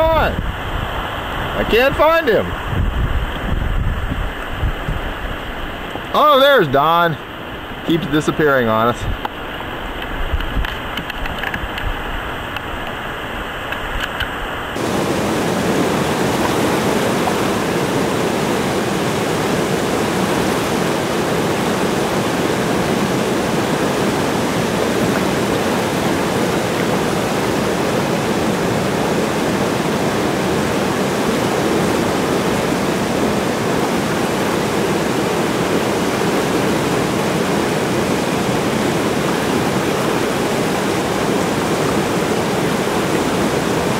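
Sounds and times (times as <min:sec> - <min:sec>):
river water flowing: 0:00.0 - 0:43.9
rushing whitewater rapids: 0:00.0 - 0:43.9.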